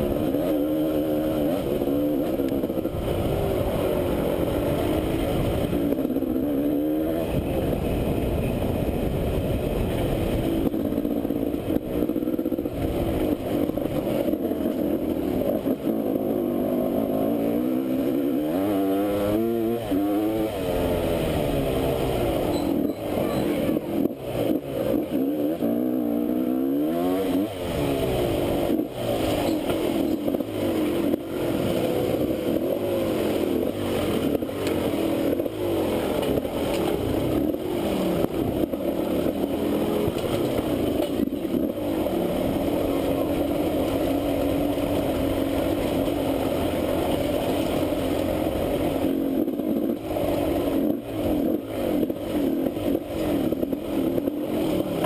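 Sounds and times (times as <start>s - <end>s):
motorcycle engine revving: 0.0s - 55.0s
rumble and rattle of riding: 0.0s - 55.0s.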